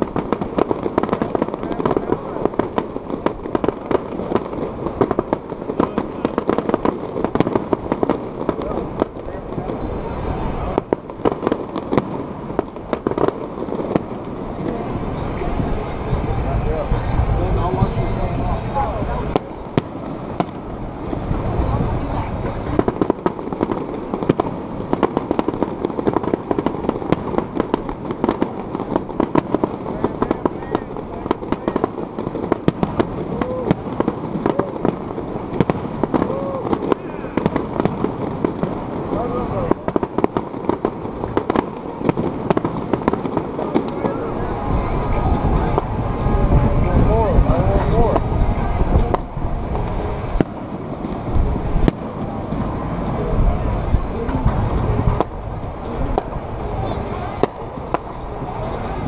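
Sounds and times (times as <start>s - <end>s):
background rumble: 0.0s - 59.0s
fireworks bangs and pops: 0.0s - 59.0s.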